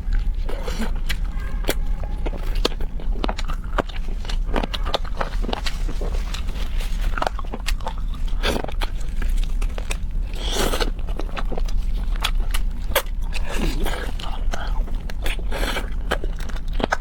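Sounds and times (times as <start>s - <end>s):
person biting and chewing: 0.0s - 17.0s.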